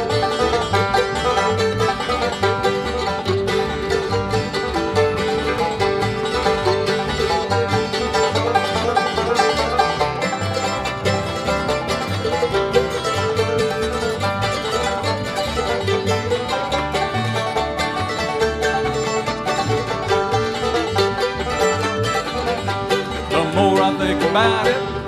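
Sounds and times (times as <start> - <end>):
acoustic guitar: 0.0 - 25.0
banjo: 0.0 - 25.0
fiddle: 0.0 - 25.0
mandolin: 0.0 - 25.0
upright bass rhythm: 0.0 - 25.0.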